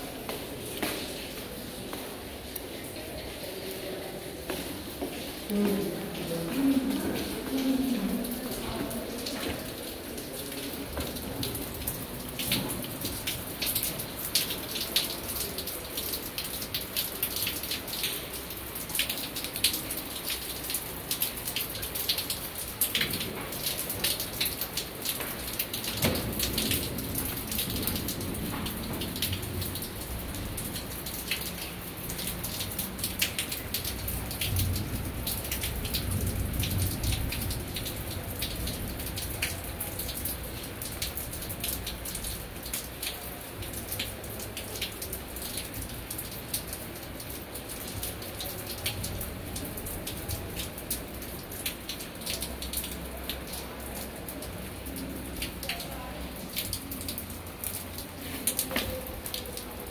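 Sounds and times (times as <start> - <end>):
rain dripping on wet stone: 0.0 - 59.9.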